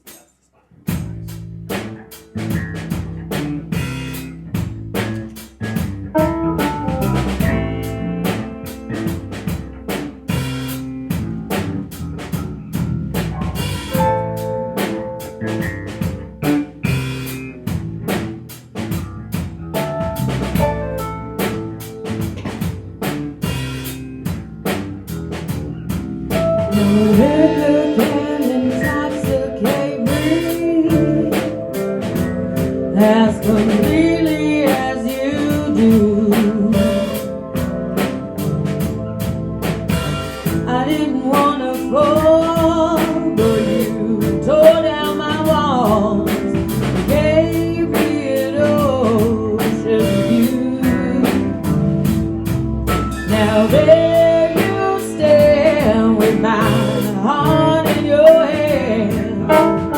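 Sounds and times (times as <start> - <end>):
bass notes: 0.8 - 59.9
drum kit beat: 0.9 - 59.9
live band playing instrumental: 0.9 - 59.9.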